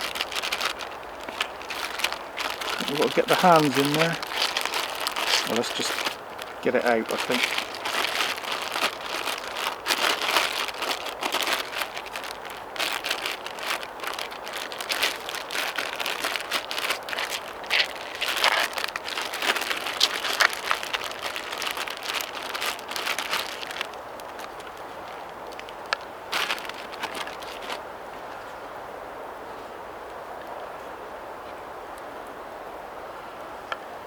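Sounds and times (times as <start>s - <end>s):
plastic bag crinkling: 0.0s - 27.8s.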